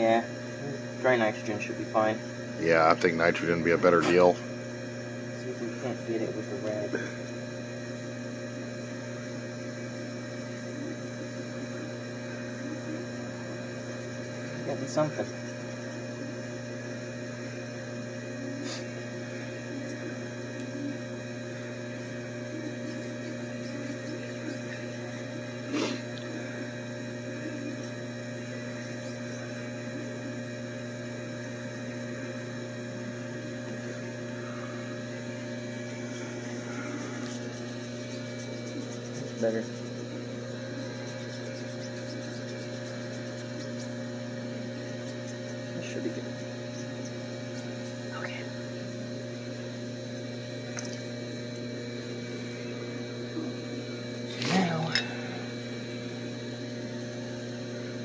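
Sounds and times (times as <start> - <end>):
machinery humming: 0.0 - 58.0.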